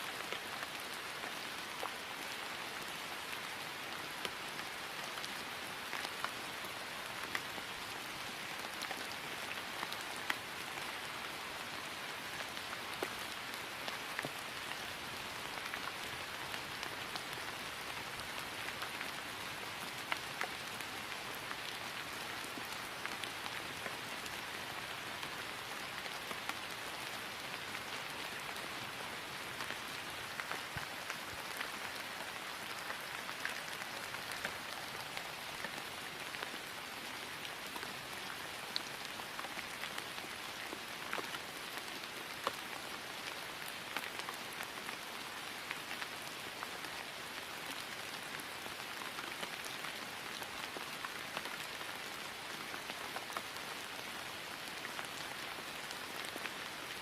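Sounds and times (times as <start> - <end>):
rain falling on grass: 0.0 - 57.0.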